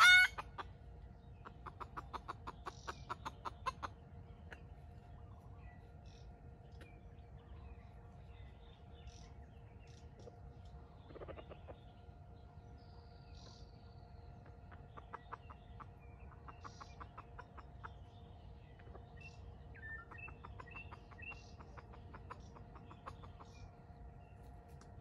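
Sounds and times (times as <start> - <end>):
chickens clucking faintly: 0.0 - 25.0.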